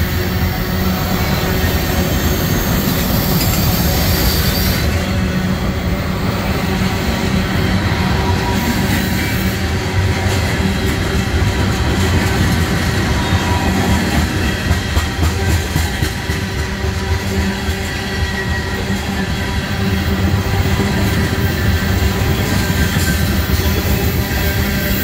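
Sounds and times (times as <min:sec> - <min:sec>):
train wheels rolling on rails: 0:00.0 - 0:25.0.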